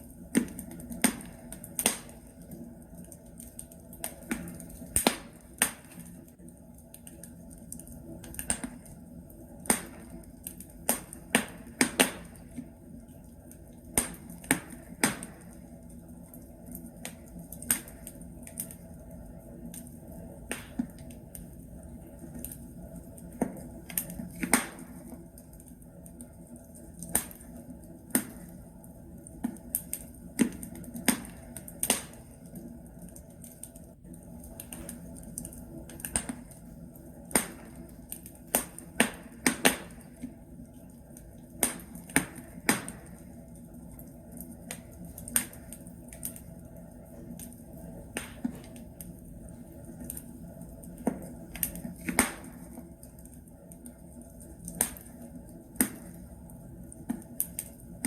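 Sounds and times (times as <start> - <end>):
fire crackling and popping: 0.0 - 58.0
soft hiss of fire: 0.0 - 58.0.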